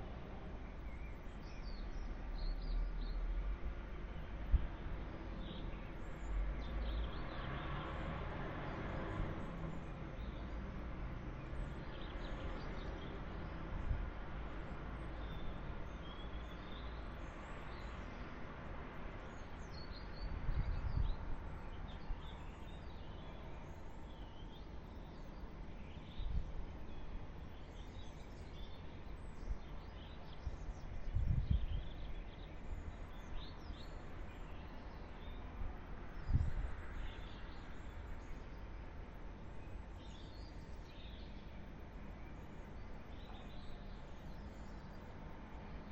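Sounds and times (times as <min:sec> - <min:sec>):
distant traffic hum: 0:00.0 - 0:45.9.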